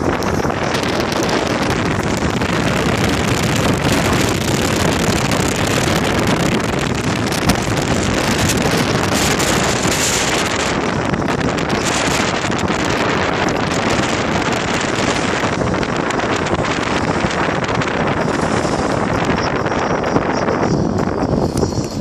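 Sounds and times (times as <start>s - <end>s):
wind on phone microphone: 0.0s - 22.0s.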